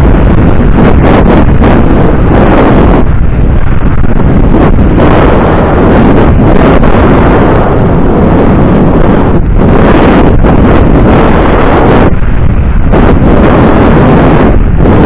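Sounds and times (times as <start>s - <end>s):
heavy wind buffeting microphone: 0.0s - 15.0s.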